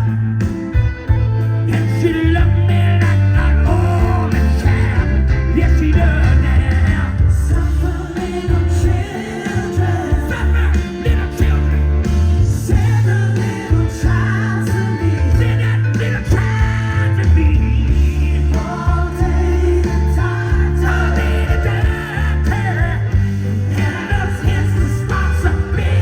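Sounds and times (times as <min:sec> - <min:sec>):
drums: 0:00.0 - 0:26.0
live rock band playing: 0:00.0 - 0:26.0
loud bass line: 0:00.0 - 0:26.0
person singing: 0:01.6 - 0:26.0.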